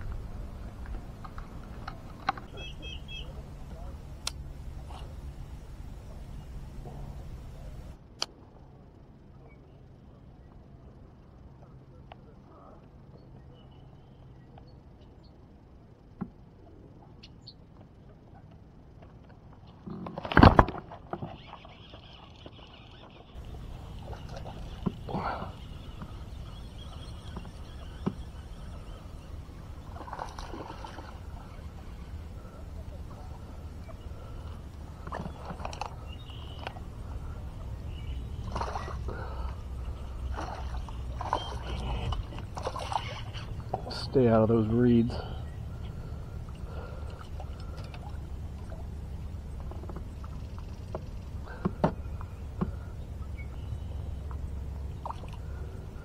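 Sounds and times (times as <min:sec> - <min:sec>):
low handling rumble: 0:00.0 - 0:13.6, 0:23.3 - 0:56.0
low background noise: 0:00.0 - 0:56.0.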